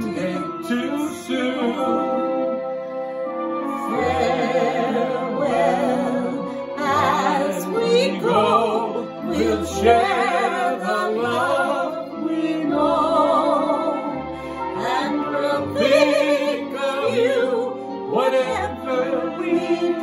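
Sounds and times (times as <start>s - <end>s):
man and woman singing duet: 0.0s - 2.7s, 3.7s - 20.0s.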